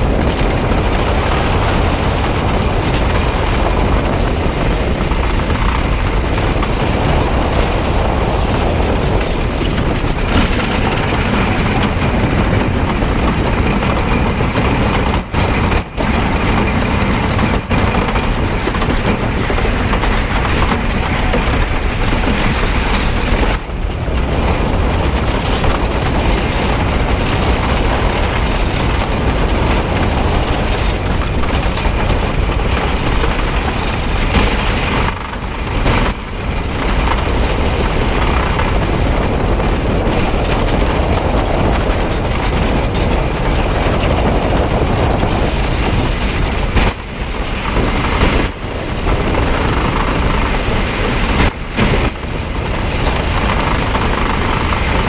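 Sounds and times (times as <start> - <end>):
roller coaster train rumbling: 0.0 - 55.0.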